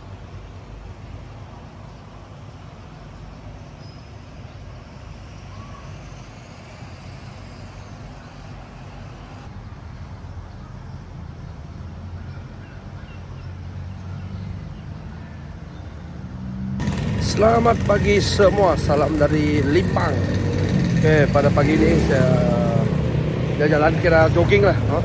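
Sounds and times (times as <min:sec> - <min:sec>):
distant traffic rumble: 0:00.0 - 0:25.0.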